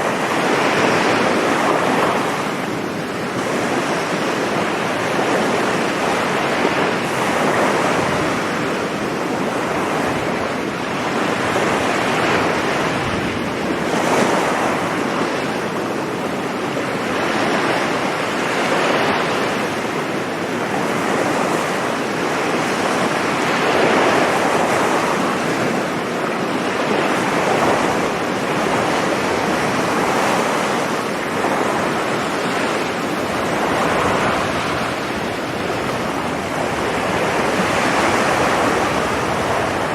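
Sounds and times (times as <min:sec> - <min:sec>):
sea waves breaking on beach: 0:00.0 - 0:39.9
wind on microphone: 0:00.0 - 0:39.9.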